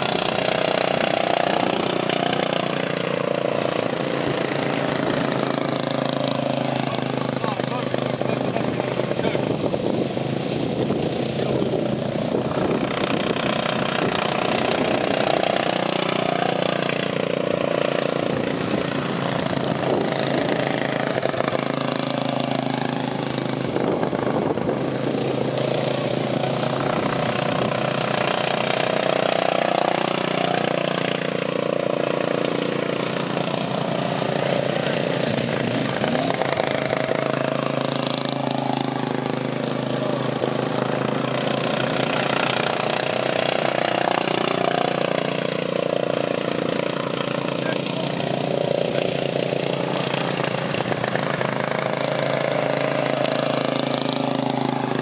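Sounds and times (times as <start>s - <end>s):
lawn mower engine revving: 0.0s - 55.0s.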